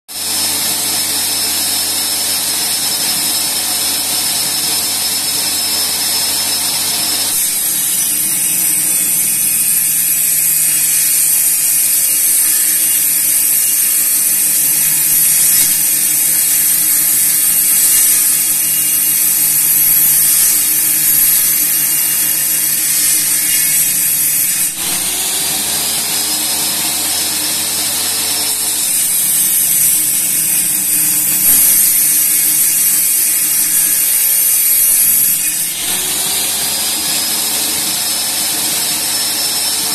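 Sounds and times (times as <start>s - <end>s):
saw cutting wood with loud hiss: 0.1s - 39.9s
table saw blade whine: 0.1s - 39.9s.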